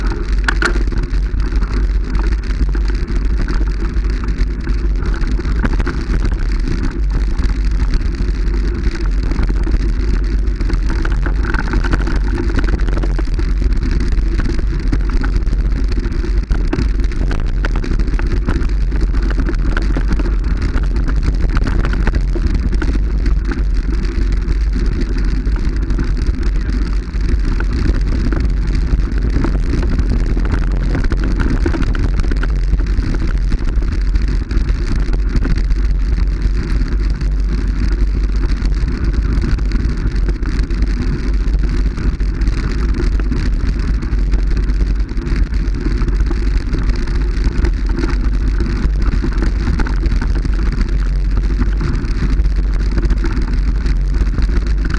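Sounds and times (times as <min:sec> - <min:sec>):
constant crackling: 0:00.0 - 0:54.9
moving vehicle rumbling: 0:00.0 - 0:54.9.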